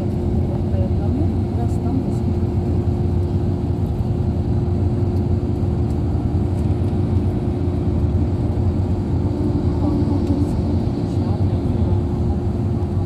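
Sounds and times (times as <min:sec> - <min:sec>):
bus engine and tyres rumbling: 0:00.0 - 0:13.0
constant hum: 0:00.0 - 0:13.0.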